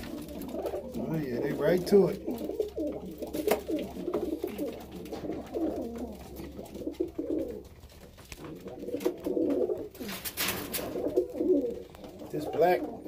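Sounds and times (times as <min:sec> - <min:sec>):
pigeons cooing: 0:00.0 - 0:13.0
wings fluttering: 0:00.0 - 0:13.0.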